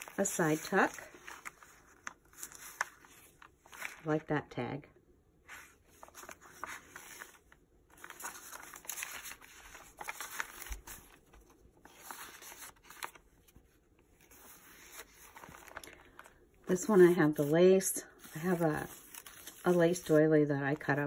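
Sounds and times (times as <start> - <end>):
paper rustling and crinkling: 0.0 - 4.1, 5.5 - 21.0.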